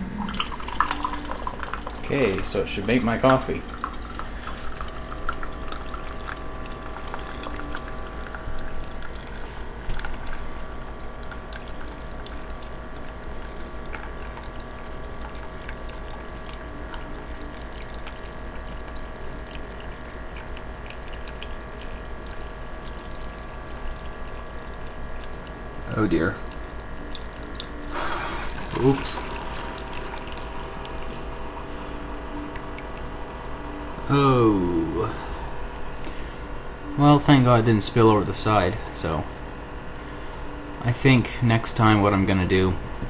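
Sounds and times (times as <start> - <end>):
liquid pouring into cup: 0.0 - 42.7
coffee machine pump humming: 0.0 - 43.0.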